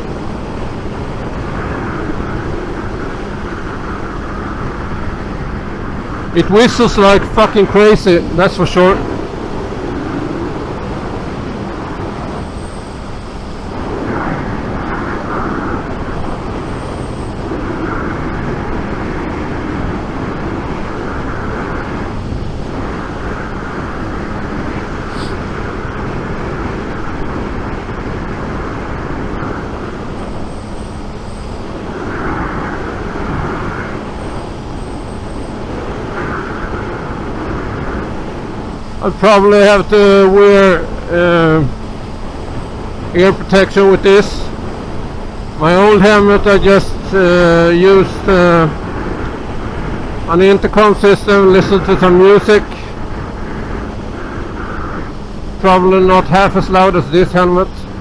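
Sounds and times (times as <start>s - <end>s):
faint motorcycle engine: 0.0s - 58.0s
helmet whistling in wind: 0.0s - 58.0s
wind noise in helmet: 0.0s - 58.0s.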